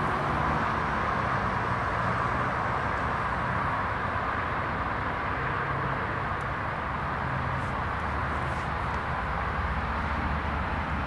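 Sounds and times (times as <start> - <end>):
locomotive engine droning: 0.0 - 11.0
moving train noise: 0.0 - 11.0.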